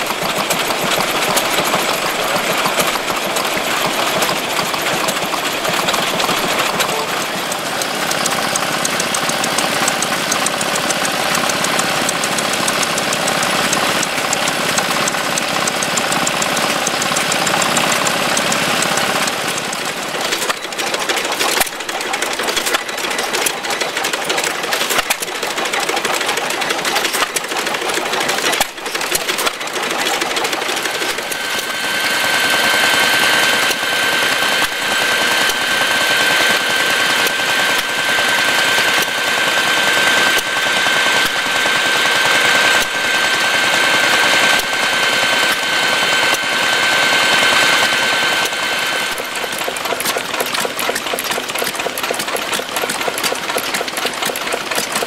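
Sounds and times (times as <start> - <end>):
engine knocking: 0.0 - 55.0.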